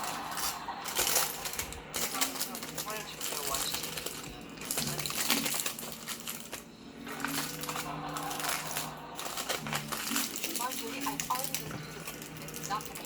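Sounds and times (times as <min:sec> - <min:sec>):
wrapper crinkling: 0:00.0 - 0:13.0.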